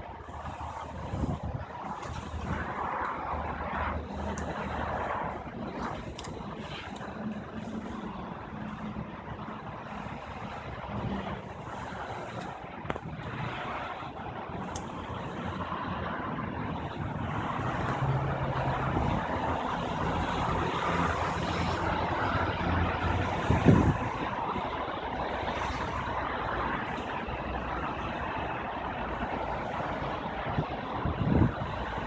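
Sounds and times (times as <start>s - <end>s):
large vehicle engine running: 0.0s - 32.0s.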